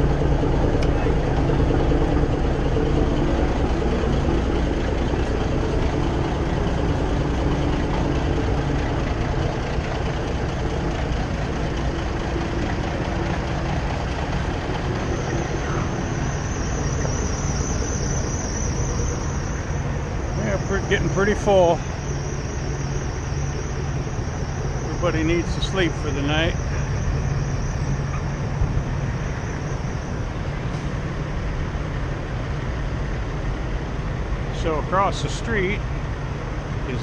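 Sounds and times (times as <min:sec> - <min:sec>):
diesel truck engine idling: 0:00.0 - 0:37.0
high wavering whine: 0:00.0 - 0:37.0
parking lot drone: 0:00.0 - 0:37.0.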